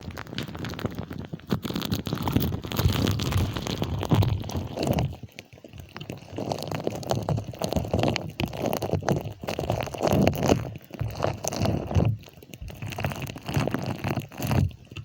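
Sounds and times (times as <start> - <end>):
slime squelching and popping: 0.0 - 15.0.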